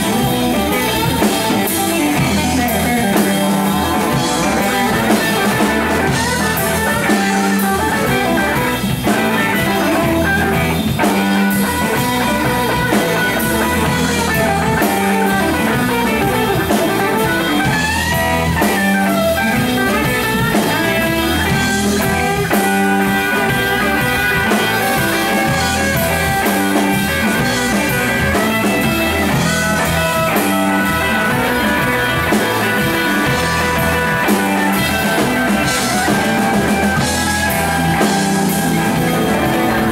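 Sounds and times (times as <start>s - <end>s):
blues-rock band playing: 0.0s - 39.9s
drum kit: 0.0s - 39.9s
electric guitar lead: 0.0s - 39.9s.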